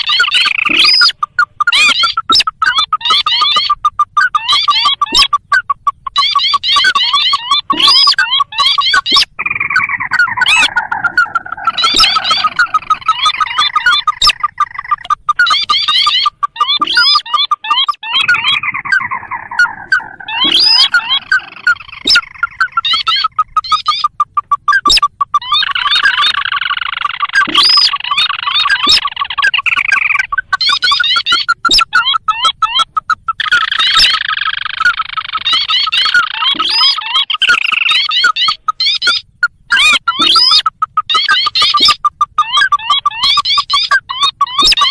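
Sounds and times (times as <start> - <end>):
bird rising chattering calls: 0.0 - 44.9
falling rattling bird trill: 0.0 - 44.9.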